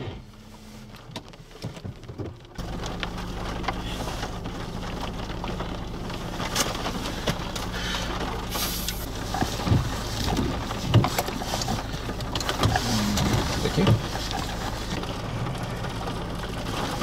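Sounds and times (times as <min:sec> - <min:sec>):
car engine idling: 0:00.0 - 0:17.0
rain on windshield: 0:00.0 - 0:17.0.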